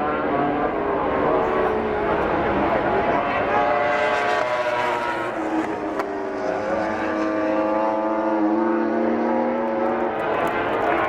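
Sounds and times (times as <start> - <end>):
racing motorcycle engine accelerating: 0.2 - 11.0.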